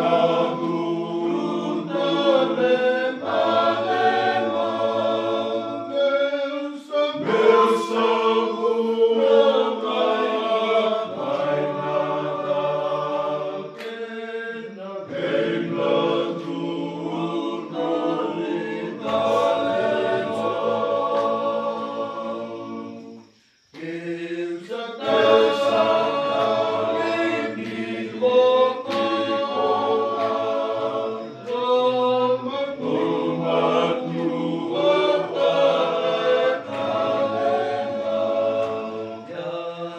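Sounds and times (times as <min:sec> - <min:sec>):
men singing in harmony: 0:00.0 - 0:39.9.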